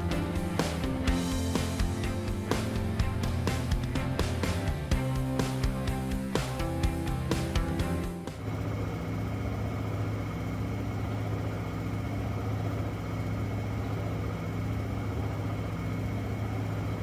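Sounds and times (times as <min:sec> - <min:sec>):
washing machine spinning hum: 0:00.0 - 0:17.0.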